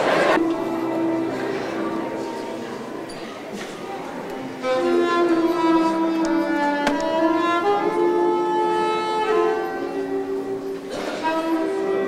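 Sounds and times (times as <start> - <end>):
soprano saxophone slow melody: 0.4 - 12.0.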